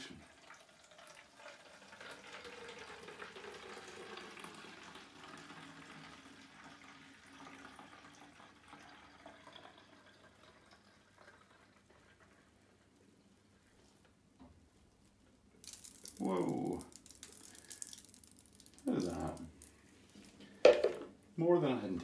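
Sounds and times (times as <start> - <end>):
liquid pouring into bottle: 0.1 - 13.0, 15.6 - 21.1.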